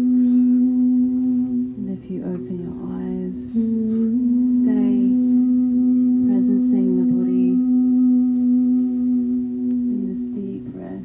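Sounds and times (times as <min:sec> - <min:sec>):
person humming: 0:00.0 - 0:11.0
singing bowl low tone: 0:00.0 - 0:11.0.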